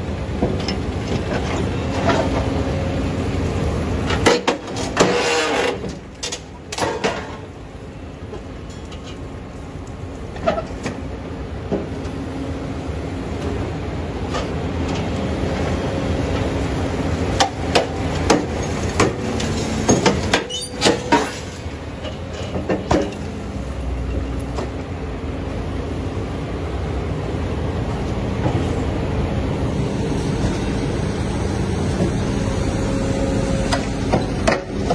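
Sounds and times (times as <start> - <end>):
excavator diesel engine and hydraulics: 0.0 - 34.9.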